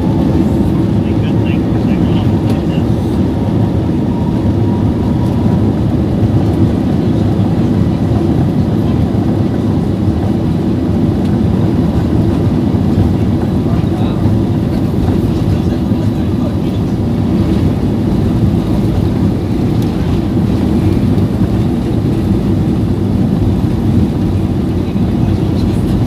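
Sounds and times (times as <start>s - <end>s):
jet cabin roar: 0.0s - 26.0s.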